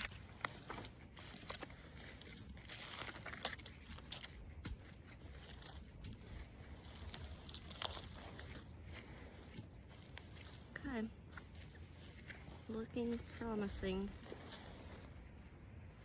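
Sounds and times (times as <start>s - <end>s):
debris rustling and crunching: 0.0s - 16.0s.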